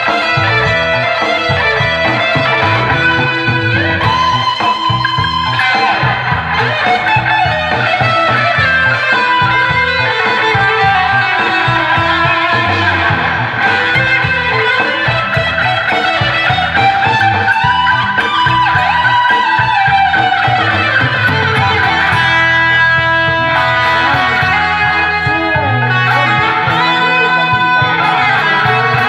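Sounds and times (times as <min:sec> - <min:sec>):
bass line: 0:00.0 - 0:29.0
guitar melody with bending notes: 0:00.0 - 0:29.0.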